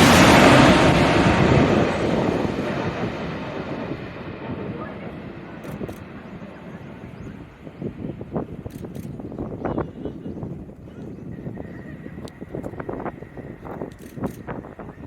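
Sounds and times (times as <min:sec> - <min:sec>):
jet airliner engine roar: 0:00.0 - 0:15.0.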